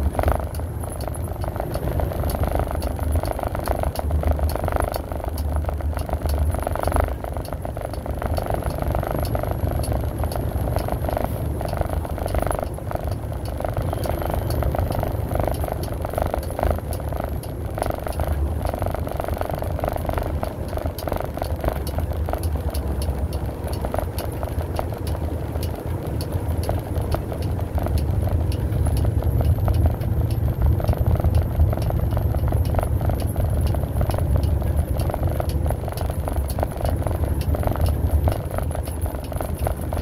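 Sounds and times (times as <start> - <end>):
engine and tyres rumbling: 0.0 - 40.0.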